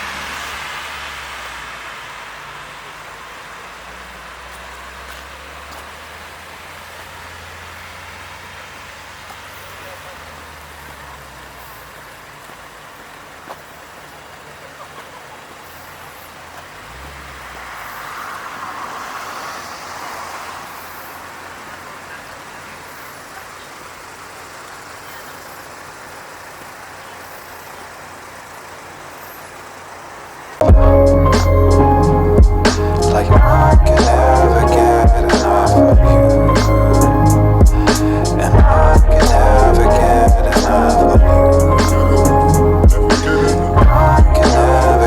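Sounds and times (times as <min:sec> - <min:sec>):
car passing by: 0:00.0 - 0:45.0
steady traffic noise: 0:00.0 - 0:45.0.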